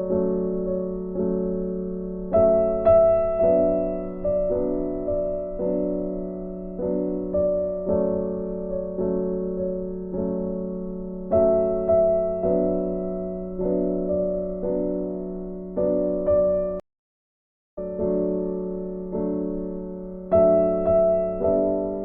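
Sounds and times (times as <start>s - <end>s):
soft piano music: 0.0s - 16.8s, 17.8s - 22.0s.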